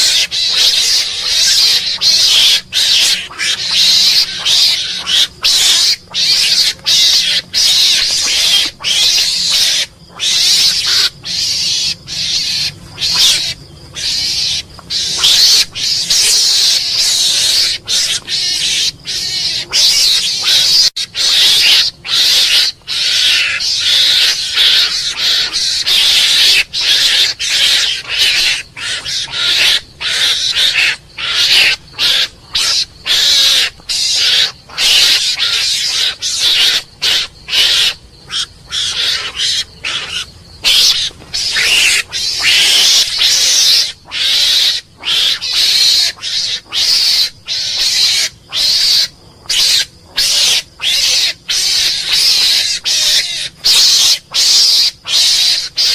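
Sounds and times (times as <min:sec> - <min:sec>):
mongoose hissing chatter: 0:00.0 - 0:55.9.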